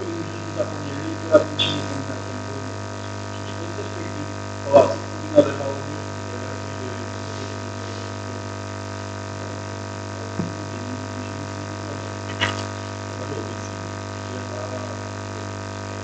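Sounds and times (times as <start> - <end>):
constant tones from sound system: 0.0 - 16.0
mains hum: 0.0 - 16.0.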